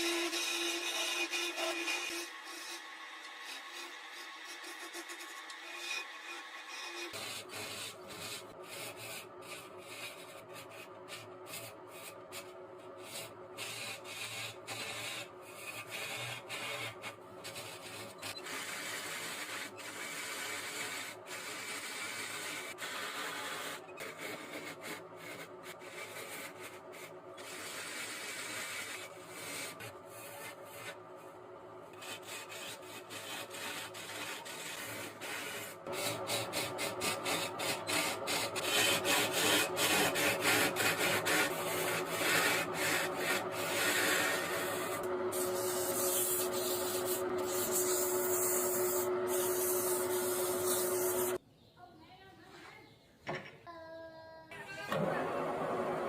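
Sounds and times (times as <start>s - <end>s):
lathe tool scraping wood: 0.0s - 51.4s.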